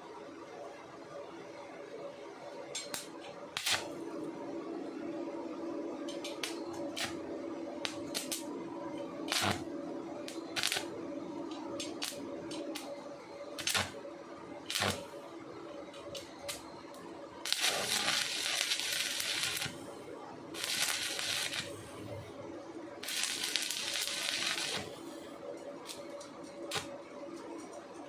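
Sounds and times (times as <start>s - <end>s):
welding machine electrical hum: 2.7s - 28.0s.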